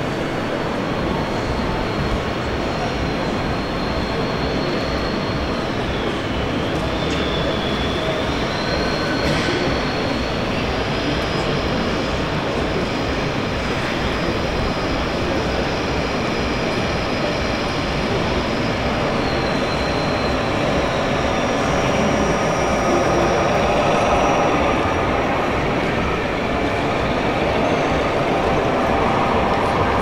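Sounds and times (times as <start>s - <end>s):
busy hall crowd din: 0.0s - 30.0s
thin high whine: 0.1s - 30.0s.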